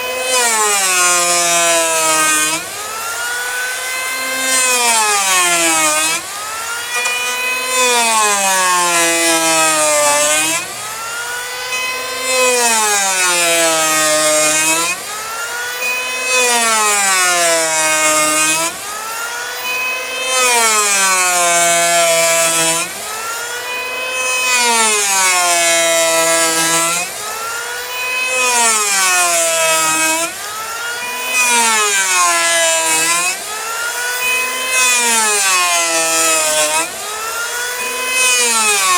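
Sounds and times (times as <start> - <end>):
electric planer cutting wood: 0.0 - 38.9.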